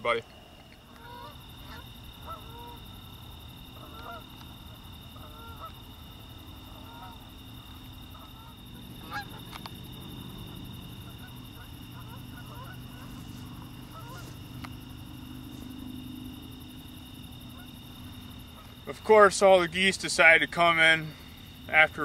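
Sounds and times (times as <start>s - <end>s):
geese honking in flight: 1.0s - 19.0s.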